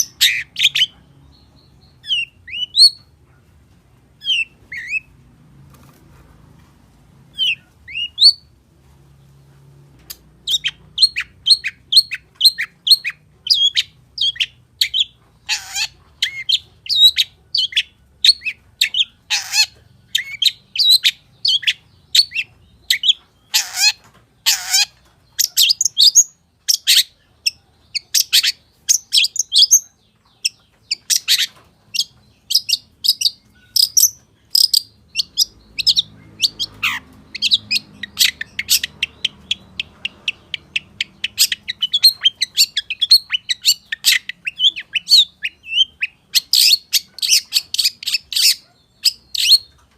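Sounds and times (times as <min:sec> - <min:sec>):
bird song of chirps and whistles: 0:00.0 - 0:03.1, 0:07.3 - 0:08.5, 0:10.4 - 0:23.9, 0:24.5 - 0:49.9
harsh rasping bird calls: 0:00.0 - 0:03.1, 0:10.1 - 0:49.9.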